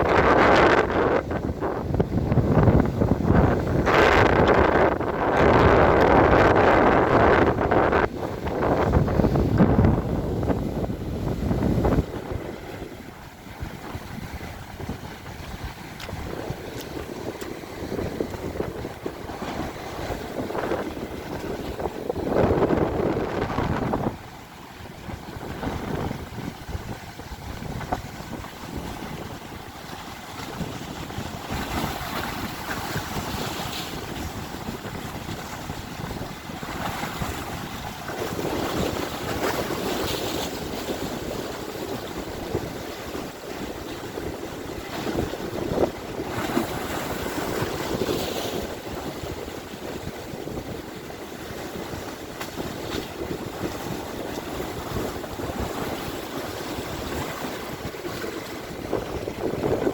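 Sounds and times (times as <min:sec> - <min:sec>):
sea waves washing in: 0:00.0 - 0:59.9
wind buffeting microphone: 0:00.0 - 0:59.9.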